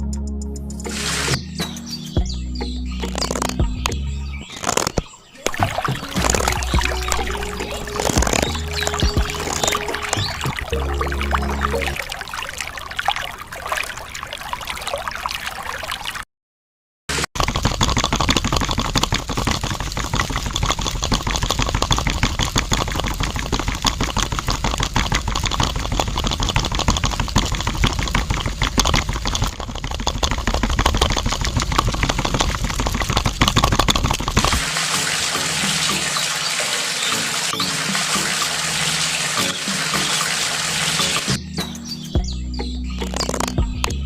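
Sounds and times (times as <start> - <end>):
water pouring and splashing: 0.9 - 1.4, 3.0 - 16.3, 17.1 - 41.4, 43.0 - 44.0.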